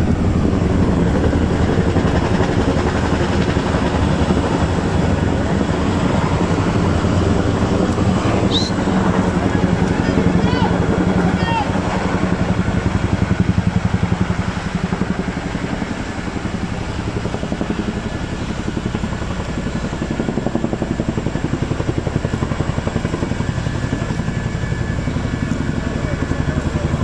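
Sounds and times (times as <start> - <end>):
helicopter rotors throbbing: 0.0 - 27.0.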